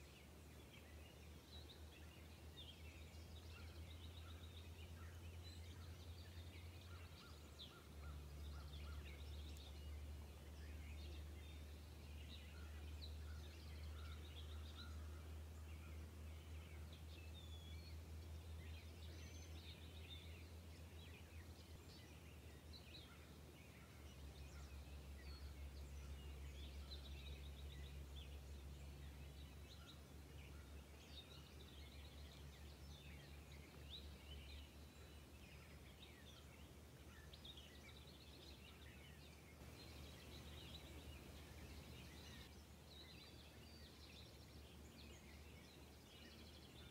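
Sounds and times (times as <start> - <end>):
low steady hum: 0.0 - 46.9
small birds twittering: 0.0 - 46.9.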